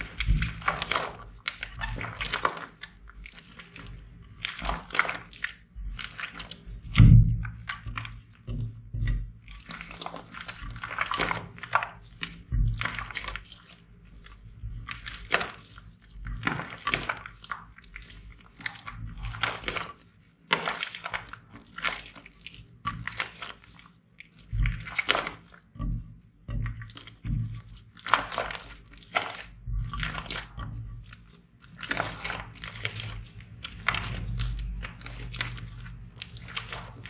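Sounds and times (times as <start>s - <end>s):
slime squished by hand: 0.0s - 37.0s.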